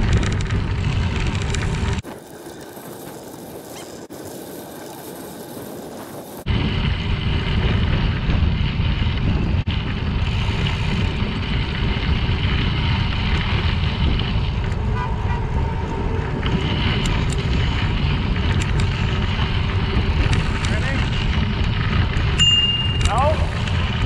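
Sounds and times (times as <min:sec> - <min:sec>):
bicycle tyres rolling on gravel trail: 0:00.0 - 0:24.0
wind buffeting microphone: 0:00.0 - 0:24.0.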